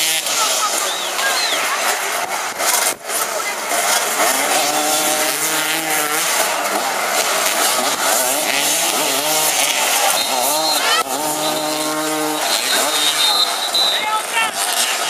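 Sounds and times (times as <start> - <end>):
racing engines revving: 0.0 - 15.0.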